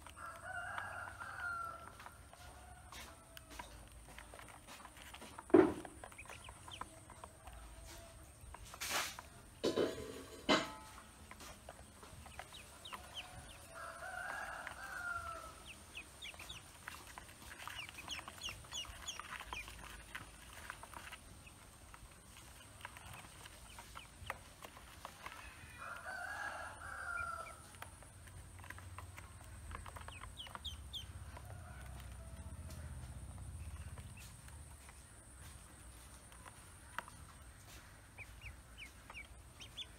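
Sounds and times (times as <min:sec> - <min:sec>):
ducklings peeping: 0:00.1 - 0:09.6, 0:10.9 - 0:39.9.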